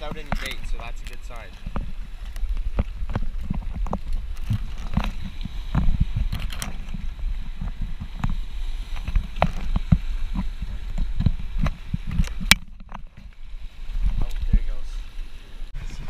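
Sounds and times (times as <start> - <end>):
footsteps on wet rock and water: 0.0 - 15.4
wind buffeting microphone: 0.0 - 16.0.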